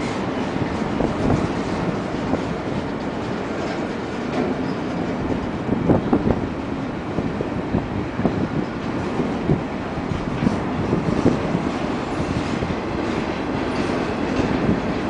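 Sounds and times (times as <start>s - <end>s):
freight train wheels rumbling: 0.0s - 15.0s
train cars knocking: 0.0s - 15.0s.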